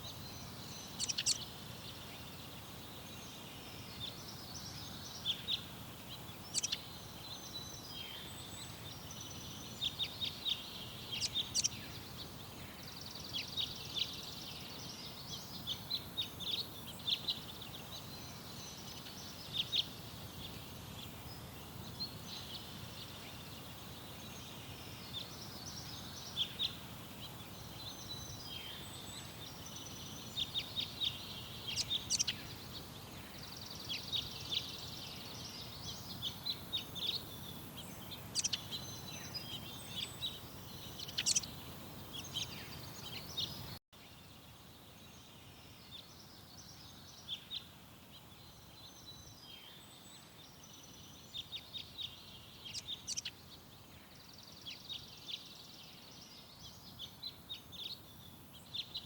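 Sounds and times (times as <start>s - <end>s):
low background noise: 0.0s - 59.0s
small birds chirping: 0.0s - 59.0s.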